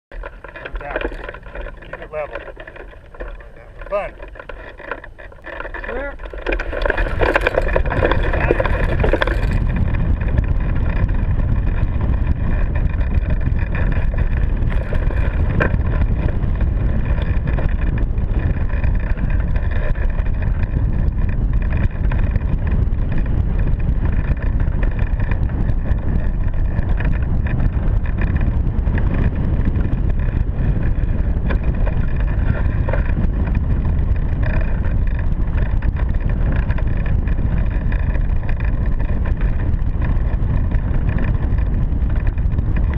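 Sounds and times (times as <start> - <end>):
wind buffeting microphone: 0.1 - 42.9.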